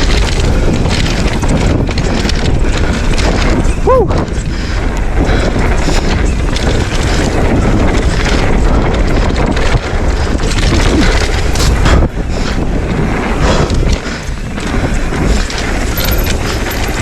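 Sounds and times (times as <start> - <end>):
bike clattering over bumps: 0.0 - 17.0
tyres rolling over dirt: 0.0 - 17.0
wind buffeting microphone: 0.0 - 17.0.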